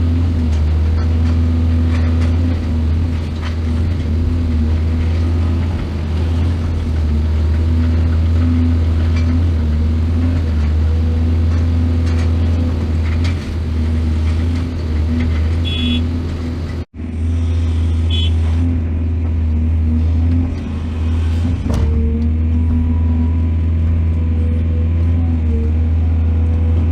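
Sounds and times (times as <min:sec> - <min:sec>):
diesel excavator engine running: 0:00.0 - 0:26.9.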